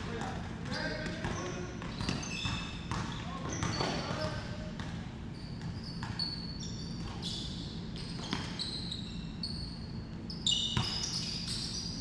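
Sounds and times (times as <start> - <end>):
basketball bouncing on court: 0.0 - 8.7, 10.7 - 11.6
sneakers squeaking on court: 0.0 - 12.0.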